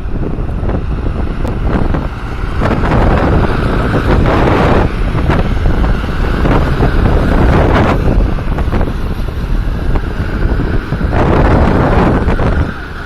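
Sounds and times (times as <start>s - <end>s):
tractor engines running: 0.0s - 13.0s
wind buffeting microphone: 0.0s - 13.0s.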